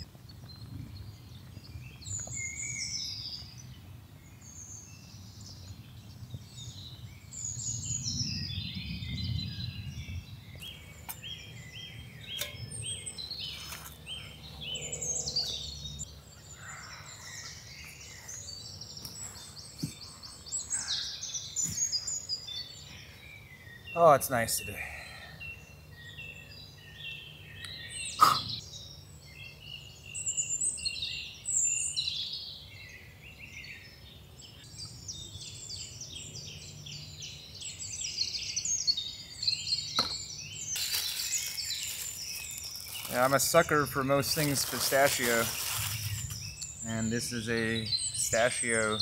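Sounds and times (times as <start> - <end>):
songbirds chirping and singing: 0.0 - 49.0.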